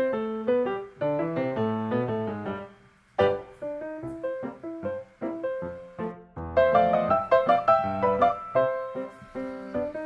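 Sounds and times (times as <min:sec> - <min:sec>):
piano melody: 0:00.0 - 0:10.0.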